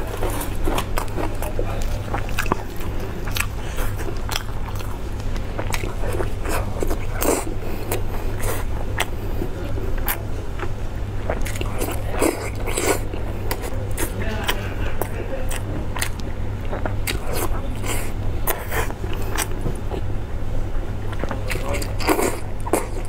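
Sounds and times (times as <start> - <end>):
biting and chewing: 0.0 - 20.1, 21.0 - 23.0
steady low hum: 0.0 - 23.0.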